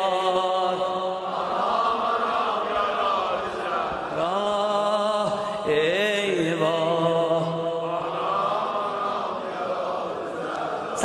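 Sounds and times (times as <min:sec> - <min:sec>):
man chanting a lament: 0:00.0 - 0:09.9.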